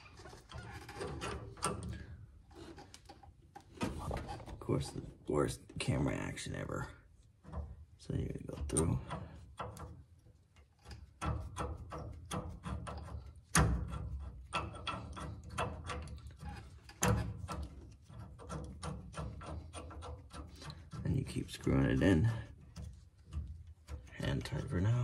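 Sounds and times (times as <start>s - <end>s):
small metallic clicks and rattles: 0.0s - 3.8s, 7.4s - 25.0s.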